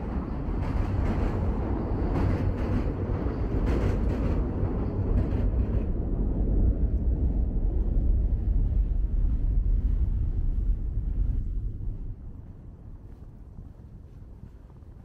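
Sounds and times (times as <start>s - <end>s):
low rumbling street noise: 0.0s - 15.0s.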